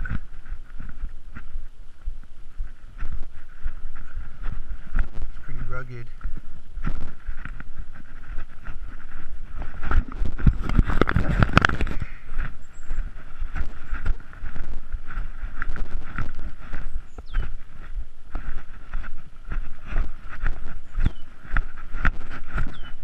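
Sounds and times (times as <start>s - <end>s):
footsteps on rough trail: 0.0s - 23.0s
rustling and scraping: 2.6s - 23.0s.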